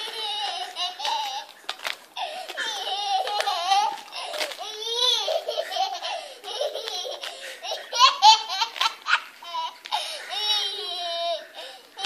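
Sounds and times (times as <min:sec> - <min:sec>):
toddler laughing and squealing: 0:00.0 - 0:01.5, 0:02.2 - 0:12.0.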